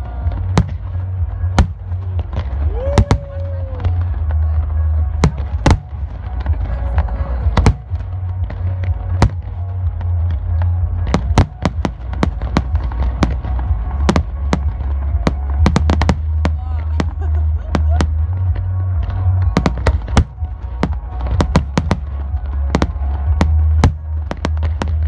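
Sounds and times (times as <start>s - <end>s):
fireworks bursting bangs: 0.0s - 4.4s, 5.0s - 25.0s
steady low rumble: 0.0s - 25.0s.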